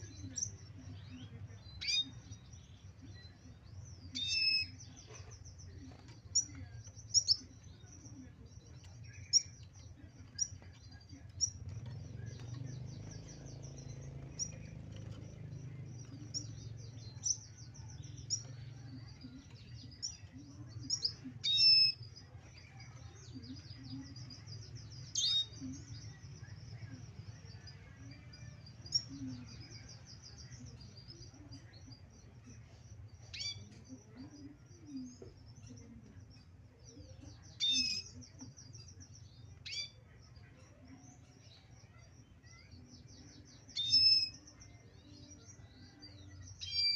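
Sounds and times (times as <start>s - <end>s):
bird twittering and trilling: 0.0s - 46.9s.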